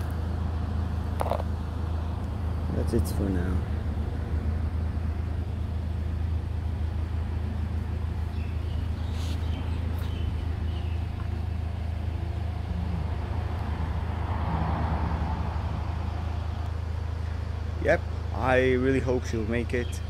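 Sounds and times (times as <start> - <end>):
low outdoor background rumble: 0.0 - 20.0.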